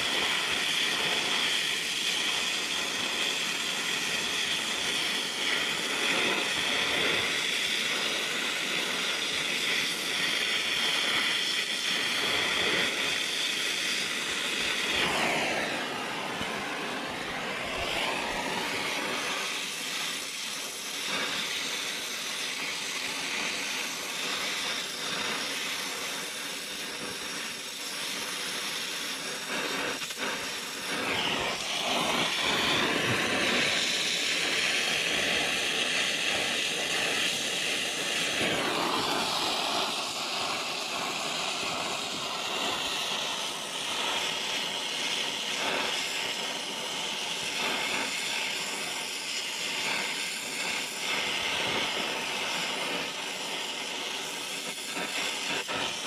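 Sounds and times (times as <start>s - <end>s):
gas torch hissing: 0.0s - 56.0s.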